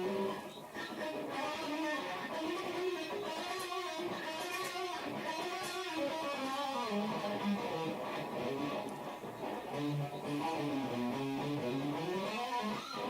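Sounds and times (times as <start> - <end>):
electric guitar melody: 0.0 - 13.0.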